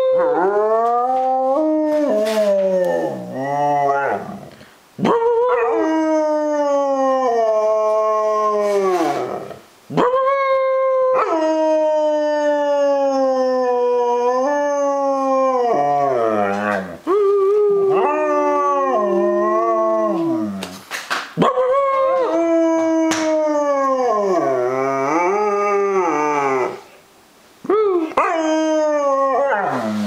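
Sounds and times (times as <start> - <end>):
dog howling: 0.0 - 20.7, 21.4 - 26.8, 28.0 - 30.0.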